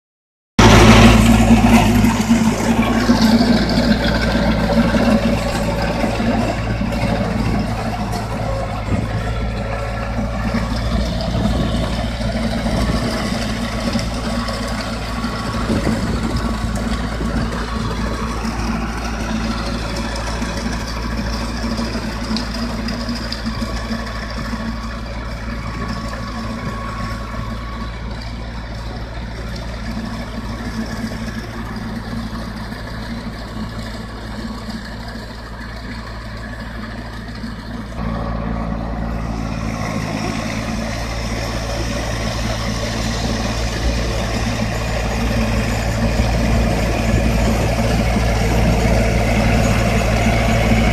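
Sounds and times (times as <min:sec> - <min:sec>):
tractor diesel engine running: 0:00.6 - 0:50.9.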